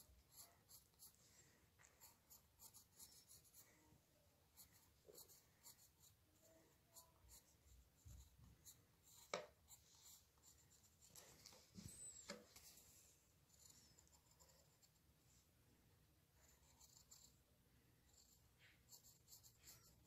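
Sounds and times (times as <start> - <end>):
pencil scratching on paper: 0.0 - 3.7, 4.5 - 12.8, 13.5 - 15.0, 16.4 - 20.0.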